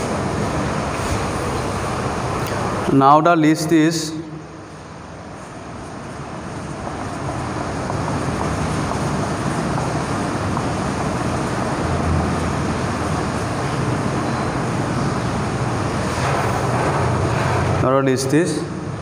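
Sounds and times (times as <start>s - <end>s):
steady rumbling background noise: 0.0s - 19.0s.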